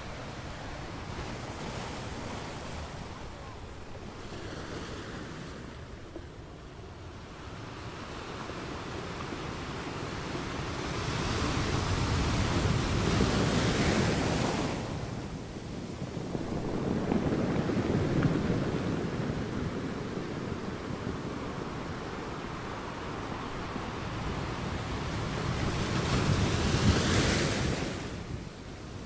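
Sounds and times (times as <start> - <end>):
small waves breaking on beach: 0.0 - 6.2, 6.9 - 29.0.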